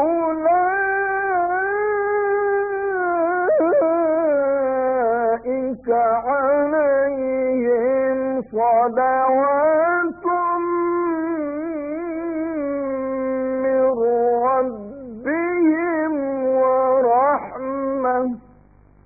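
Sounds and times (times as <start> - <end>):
man chanting melodically: 0.0 - 18.6.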